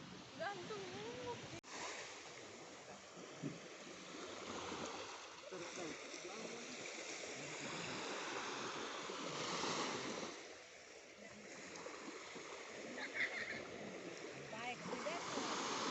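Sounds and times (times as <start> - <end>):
sea waves washing onto beach: 0.0 - 15.9.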